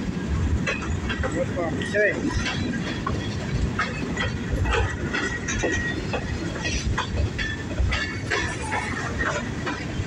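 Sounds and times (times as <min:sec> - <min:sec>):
train wheels clattering: 0:00.0 - 0:10.0.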